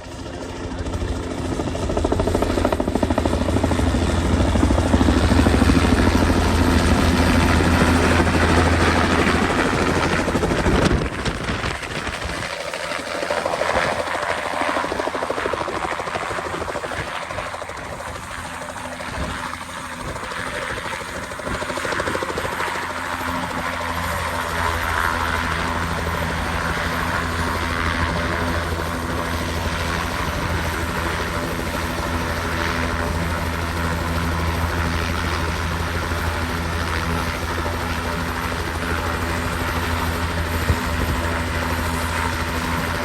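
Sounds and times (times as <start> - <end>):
helicopter engine and rotor drone: 0.0 - 43.0.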